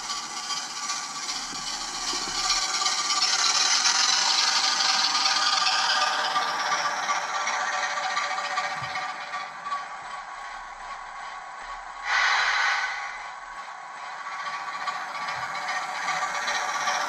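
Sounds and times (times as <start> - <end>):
model train motor whirring: 0.0 - 11.2, 11.8 - 17.0
wheels rattling over rails: 0.0 - 17.0.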